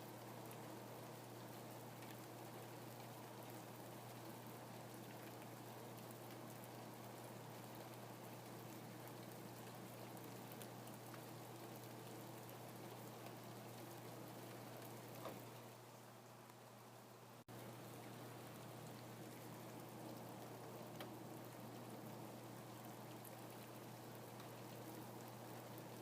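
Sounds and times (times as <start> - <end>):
faint rain falling: 0.0 - 26.0.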